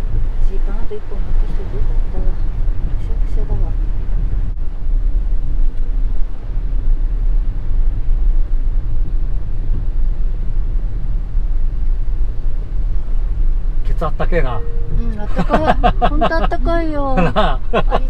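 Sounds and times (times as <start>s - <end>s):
engine and road rumble in car: 0.0s - 18.0s.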